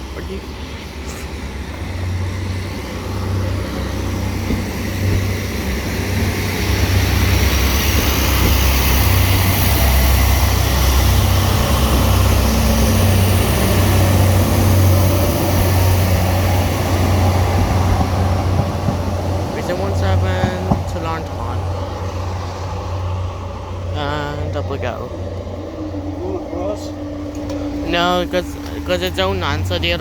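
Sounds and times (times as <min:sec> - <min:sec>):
diesel engine rumble: 0:00.0 - 0:30.0
train wheels on rails: 0:00.0 - 0:30.0.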